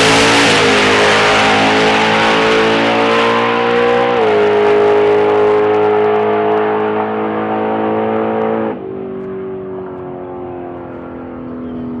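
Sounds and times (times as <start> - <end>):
race car engine running hard: 0.0 - 12.0.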